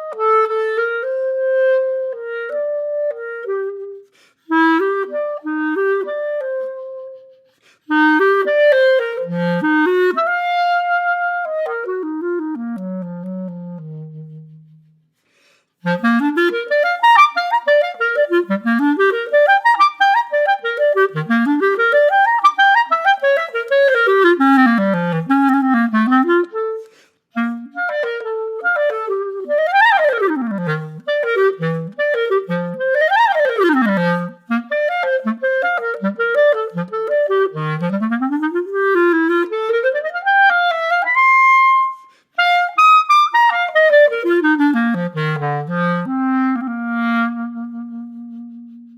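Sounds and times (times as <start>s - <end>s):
solo clarinet playing scales: 0.0s - 48.9s.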